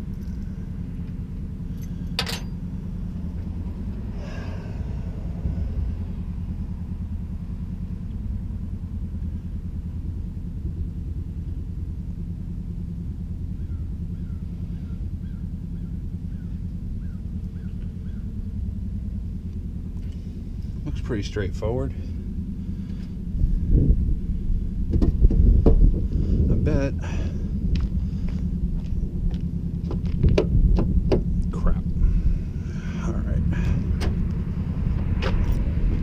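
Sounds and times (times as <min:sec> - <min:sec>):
low rumble: 0:00.0 - 0:36.0.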